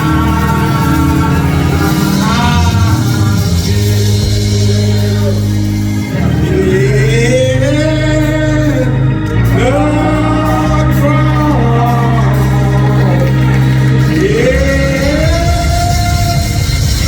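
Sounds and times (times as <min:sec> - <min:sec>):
men's choir singing a hymn: 0:00.0 - 0:17.0
sustained low bass notes: 0:00.0 - 0:17.0.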